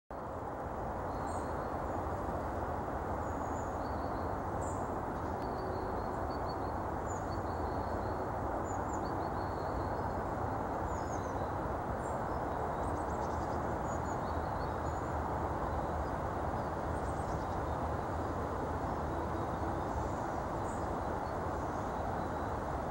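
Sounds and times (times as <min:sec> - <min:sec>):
small birds chirping: 0:03.2 - 0:22.9.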